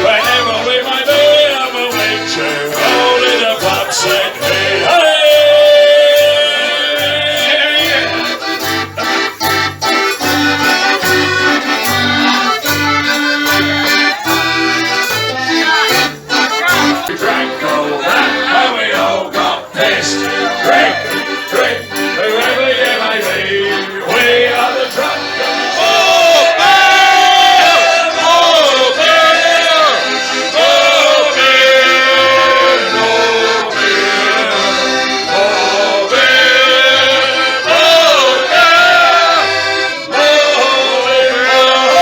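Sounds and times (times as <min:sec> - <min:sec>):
folk band with accordion: 0:00.0 - 0:42.0.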